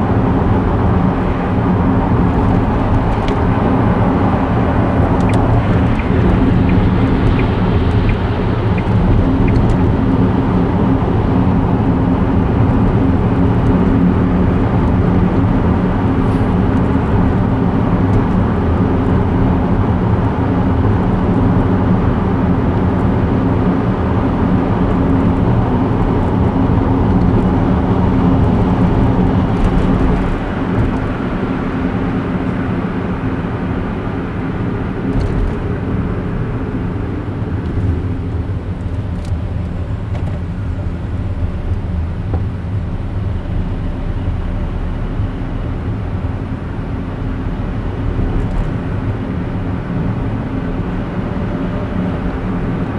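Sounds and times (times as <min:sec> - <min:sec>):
car engine and tyre noise: 0:00.0 - 0:52.9.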